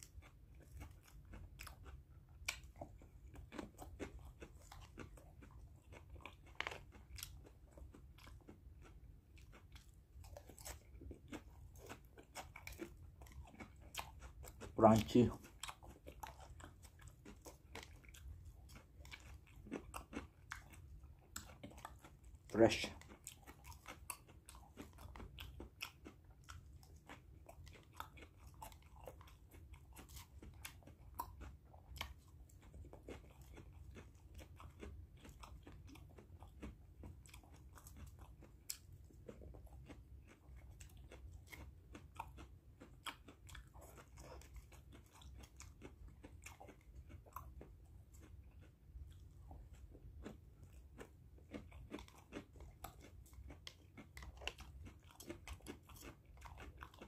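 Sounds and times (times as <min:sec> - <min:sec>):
faint low hum: 0:00.0 - 0:57.0
person chewing crunchy vegetables: 0:00.0 - 0:57.0.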